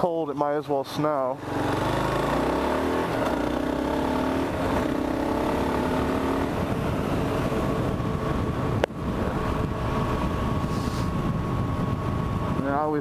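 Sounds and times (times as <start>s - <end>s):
motorcycle engine running: 1.3s - 13.0s.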